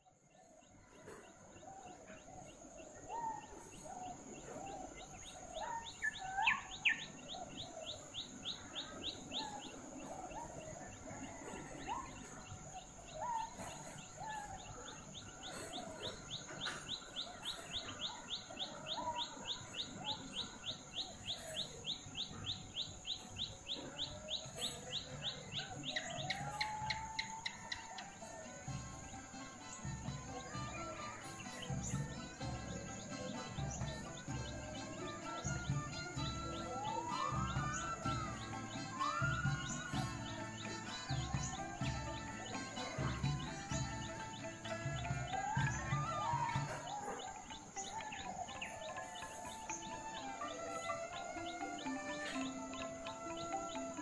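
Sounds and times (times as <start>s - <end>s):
birds chirping: 0.0s - 54.0s
fast pulsing bird call: 1.1s - 54.0s.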